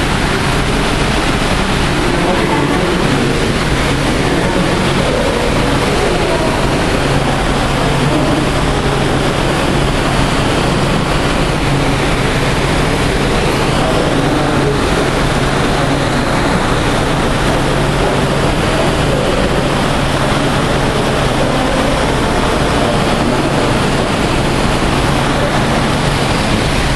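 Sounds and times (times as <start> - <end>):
circulating water rushing: 0.0 - 26.9
low constant pump hum: 0.0 - 26.9.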